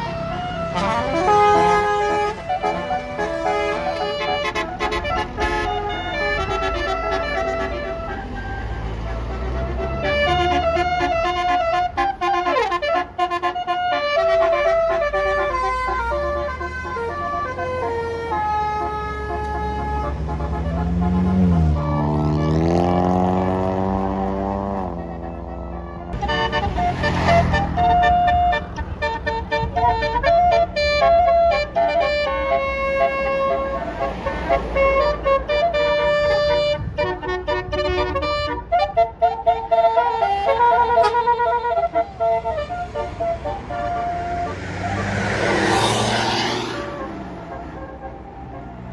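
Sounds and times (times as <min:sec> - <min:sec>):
bus horn playing melody: 0:00.0 - 0:48.9
low rumble of bus engine: 0:00.0 - 0:48.9.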